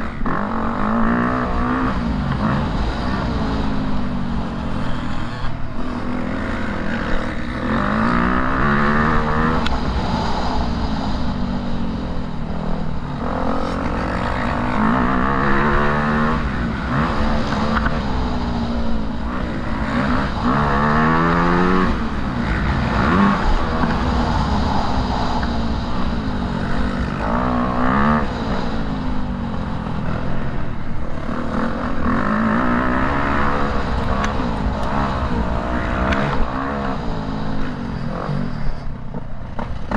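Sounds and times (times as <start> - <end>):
motocross bike engine revving: 0.0 - 39.0
steady low rumble: 5.8 - 38.3.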